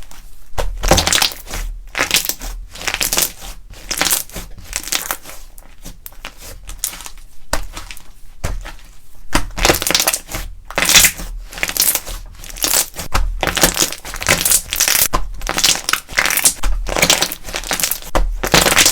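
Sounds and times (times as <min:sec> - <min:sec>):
slime crunching and crackling: 0:00.6 - 0:18.9.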